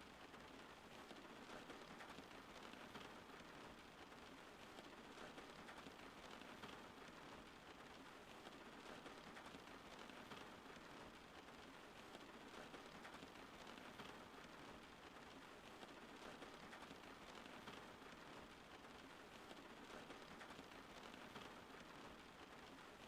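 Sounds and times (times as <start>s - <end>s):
faint rain patter: 0.0s - 23.0s.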